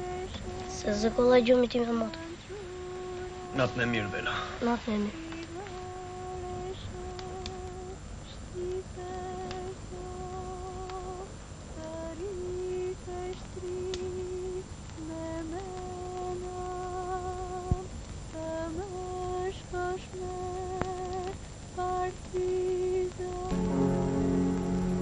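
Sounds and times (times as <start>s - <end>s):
person humming a slow tune: 2.1s - 17.8s, 18.4s - 25.0s.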